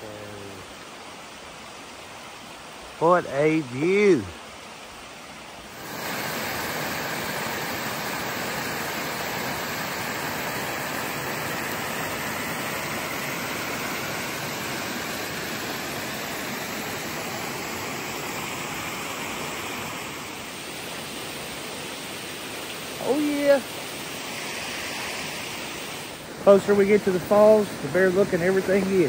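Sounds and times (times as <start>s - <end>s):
whitewater pouring over rocks: 0.0s - 29.0s.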